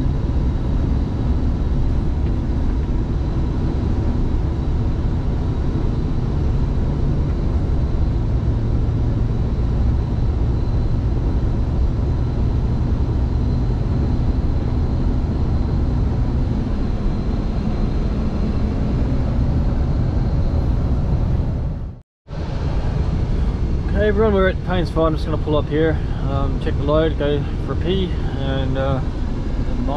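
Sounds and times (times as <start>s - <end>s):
faint high whine: 0.0s - 29.9s
road and tyre noise: 0.0s - 29.9s
truck engine drone: 0.0s - 29.9s.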